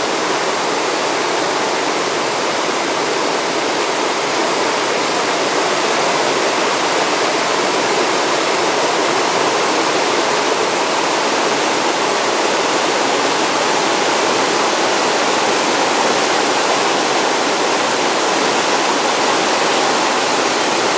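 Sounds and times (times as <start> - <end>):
stream rushing over rocks: 0.0 - 20.9.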